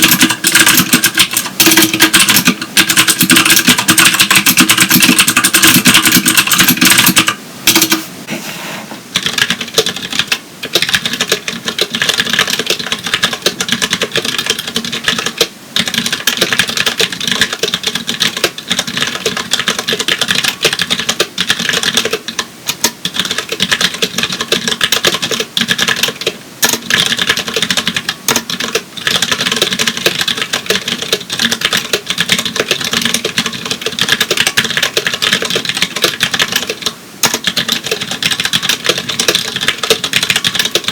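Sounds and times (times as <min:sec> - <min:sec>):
fast keyboard typing clicks: 0:00.0 - 0:08.0, 0:09.2 - 0:40.9.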